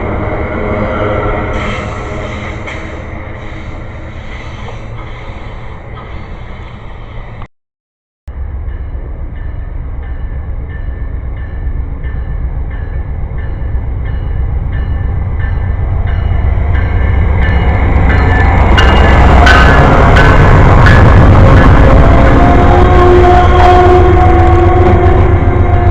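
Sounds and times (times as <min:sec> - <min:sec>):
train rumble: 0:00.0 - 0:07.5, 0:08.3 - 0:25.9.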